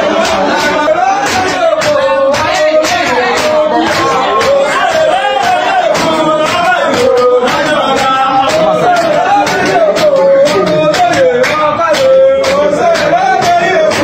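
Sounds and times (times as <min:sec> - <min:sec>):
person singing: 0:00.0 - 0:14.0
sharp percussive beats: 0:00.0 - 0:14.0.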